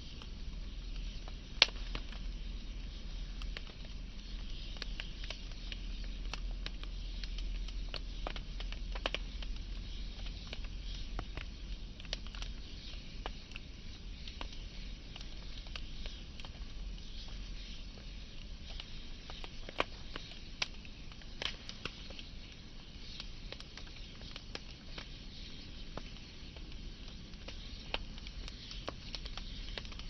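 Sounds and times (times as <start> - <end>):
soft steady fire hiss: 0.0 - 30.0
wood fire crackling and popping: 0.0 - 30.0.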